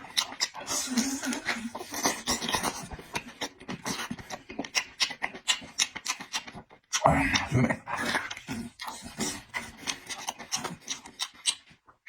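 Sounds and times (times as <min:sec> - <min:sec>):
wet lip smacks: 0:00.0 - 0:11.8
person chewing food: 0:00.0 - 0:12.0.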